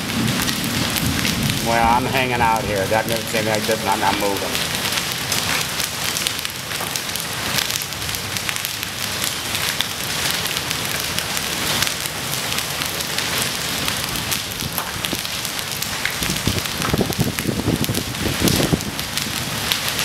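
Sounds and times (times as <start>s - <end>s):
hail pelting wet pavement: 0.0s - 20.0s.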